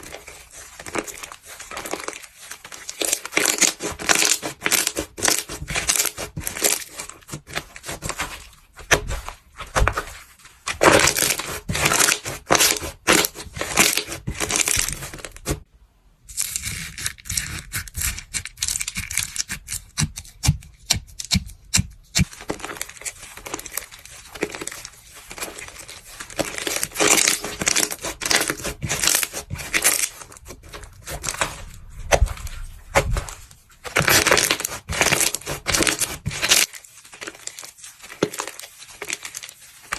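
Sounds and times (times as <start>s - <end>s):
crunchy material being crushed: 0.0s - 15.6s, 22.2s - 39.9s.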